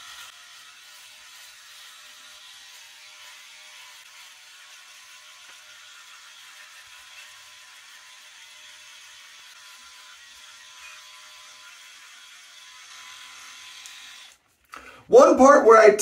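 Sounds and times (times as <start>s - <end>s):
electric shaver running: 0.0s - 14.4s.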